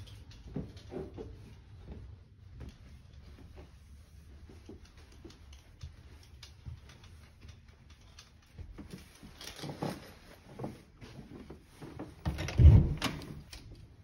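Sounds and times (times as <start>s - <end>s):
soft footsteps: 0.0s - 12.4s.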